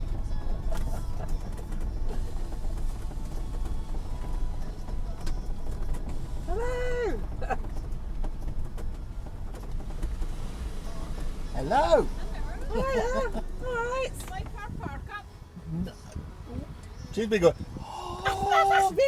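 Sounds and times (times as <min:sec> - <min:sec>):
motorhome engine rumble: 0:00.0 - 0:19.0.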